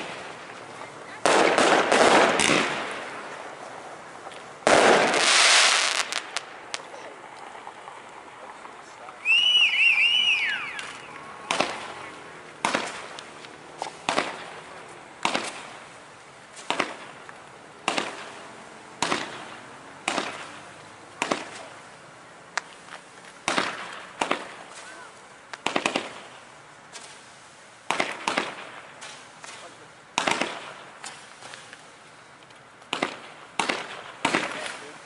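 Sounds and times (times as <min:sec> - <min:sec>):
fireworks bangs: 0:00.0 - 0:21.9, 0:22.5 - 0:31.7, 0:32.9 - 0:35.0.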